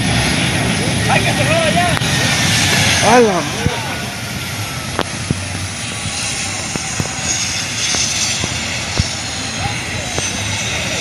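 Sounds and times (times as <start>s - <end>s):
helicopter turbine engine rushing: 0.0s - 11.0s.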